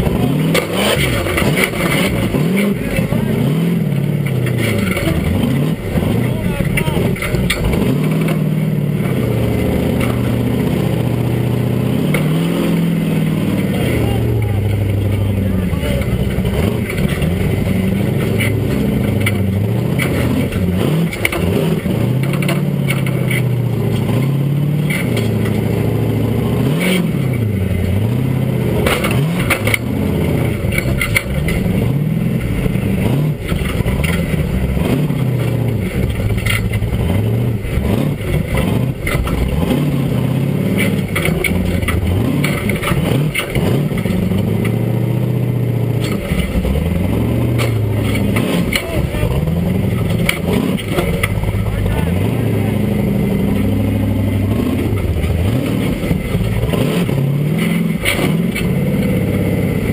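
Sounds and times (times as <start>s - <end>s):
chassis knocks and scrapes: 0.0s - 14.0s, 14.7s - 59.9s
engine revving: 0.0s - 59.9s.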